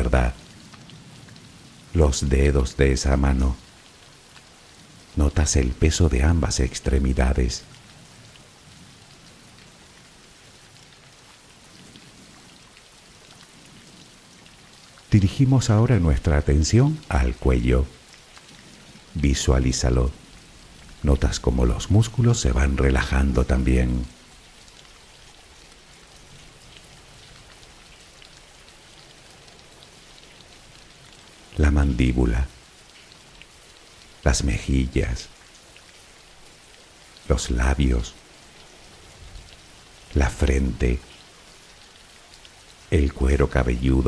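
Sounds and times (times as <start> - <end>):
rain drop ticks: 0.0 - 44.0
steady rain hiss: 0.0 - 44.0.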